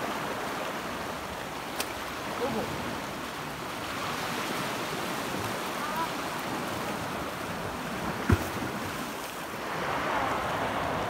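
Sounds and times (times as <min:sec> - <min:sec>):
waves on rocky shore: 0:00.0 - 0:11.0
wind: 0:00.0 - 0:11.0.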